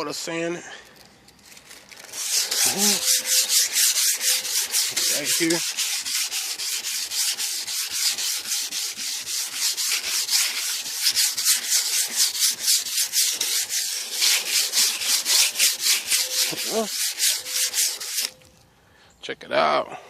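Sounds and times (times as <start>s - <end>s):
sandpaper scraping paint: 1.6s - 18.5s.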